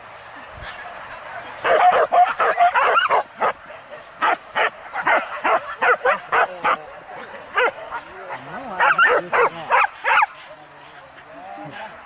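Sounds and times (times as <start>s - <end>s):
dogs barking and yelping: 0.5s - 12.0s.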